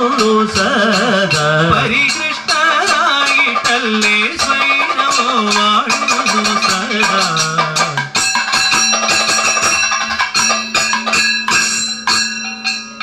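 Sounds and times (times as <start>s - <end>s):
bell-metal cymbals clashing: 0.0s - 13.0s
drums: 0.0s - 13.0s.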